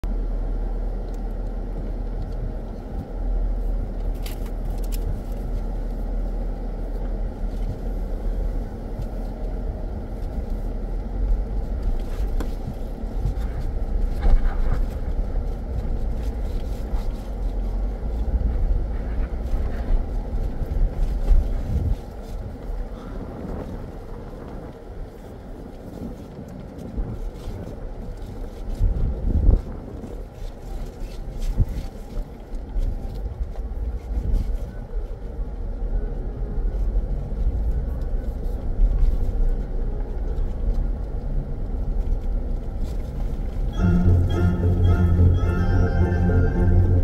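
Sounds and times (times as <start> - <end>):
engine and tyres rumbling: 0.0 - 47.0.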